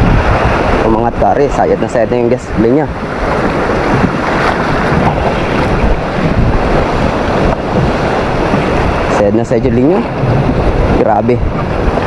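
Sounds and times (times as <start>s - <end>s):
sea surf: 0.0s - 12.0s
wind on microphone: 0.0s - 12.0s.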